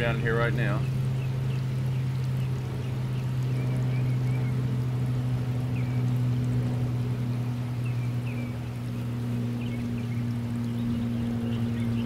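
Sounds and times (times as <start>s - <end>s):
water pump motor humming: 0.0s - 12.0s
water running: 0.0s - 12.0s.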